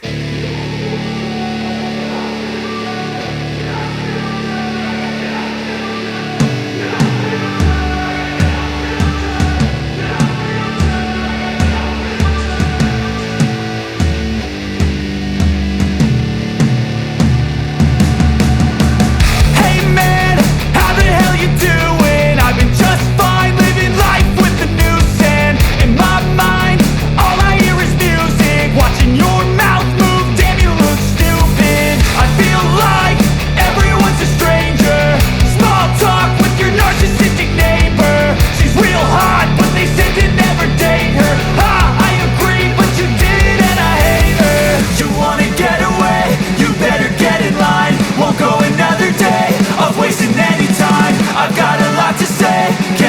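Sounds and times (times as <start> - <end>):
sustained guitar chords: 0.0 - 53.0
hard rock drum hits: 6.4 - 53.0.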